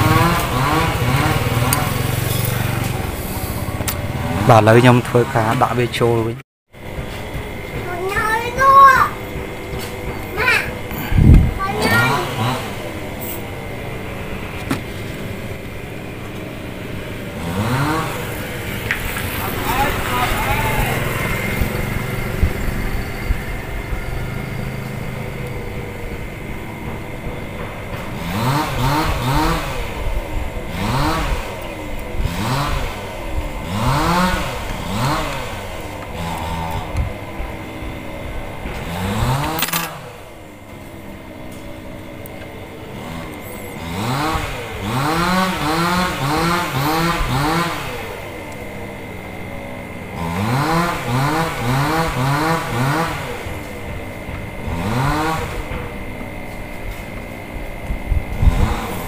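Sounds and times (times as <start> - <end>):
small engine revving: 0.0 - 6.2, 6.8 - 40.6, 41.5 - 59.0.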